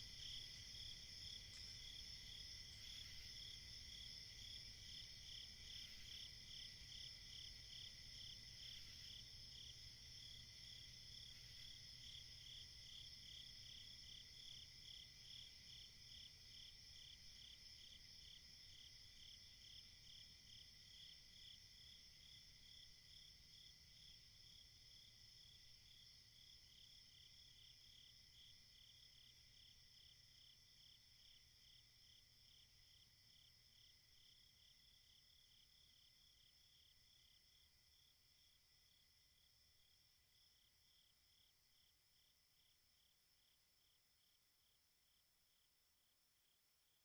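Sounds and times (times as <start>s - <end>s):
crickets chirping: 0.0s - 47.0s.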